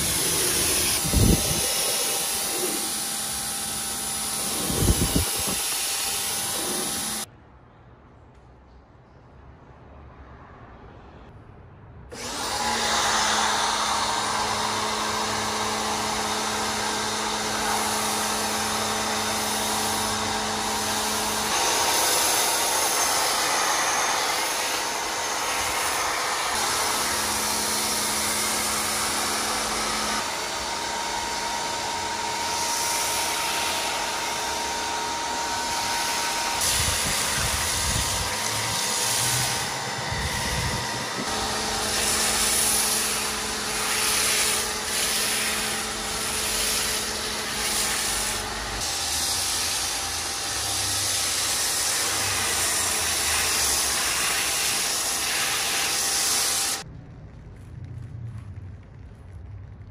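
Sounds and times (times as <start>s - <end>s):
pressure washer spraying: 0.0s - 7.3s, 12.2s - 56.8s.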